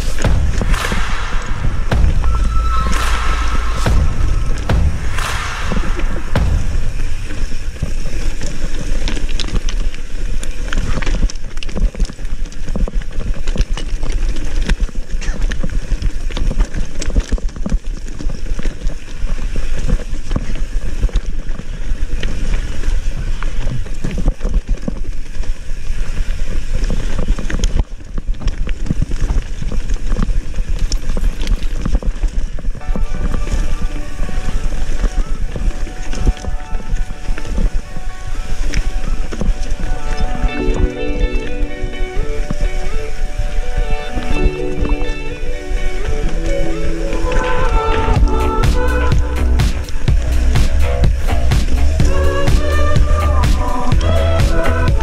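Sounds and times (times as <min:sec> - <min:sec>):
bike rattling: 0:00.0 - 0:02.6, 0:06.9 - 0:55.0.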